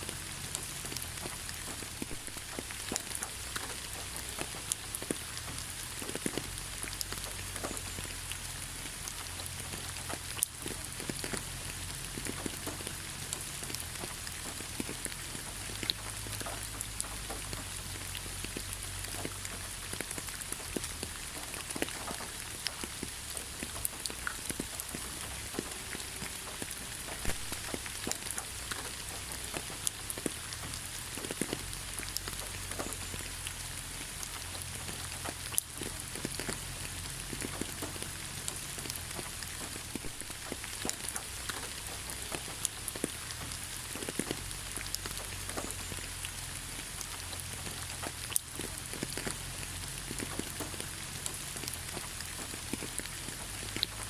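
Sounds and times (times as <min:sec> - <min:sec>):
rain falling on foliage: 0:00.0 - 0:54.0
raindrops pattering: 0:00.0 - 0:54.0.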